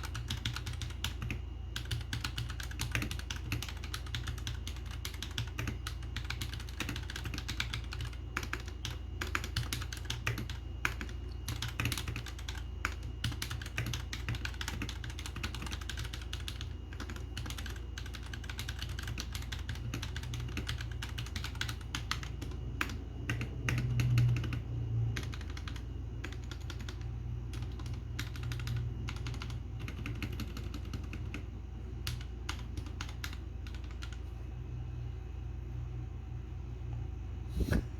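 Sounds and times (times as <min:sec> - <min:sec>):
typing on mechanical keyboard: 0:00.0 - 0:34.2.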